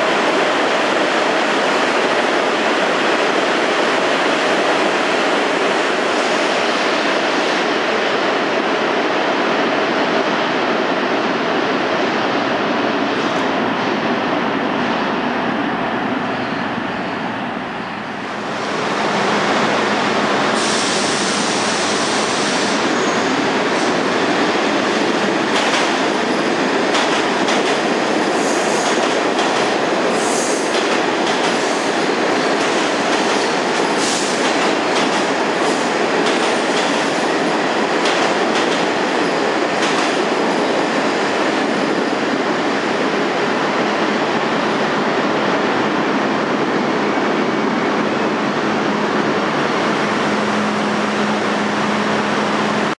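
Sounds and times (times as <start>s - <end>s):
subway train passing: 0.0s - 52.9s.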